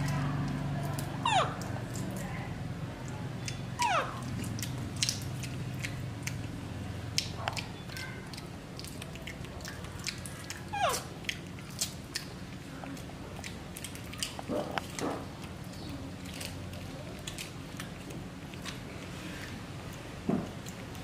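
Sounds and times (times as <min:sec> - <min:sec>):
monkey chewing with wet smacks: 0:03.0 - 0:21.0.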